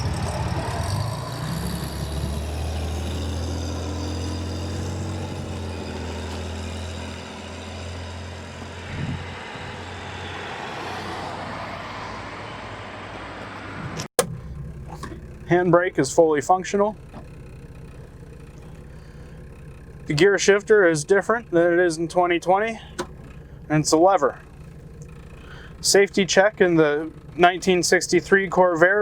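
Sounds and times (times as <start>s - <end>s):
car engine running steadily: 0.0s - 10.3s, 12.7s - 29.0s.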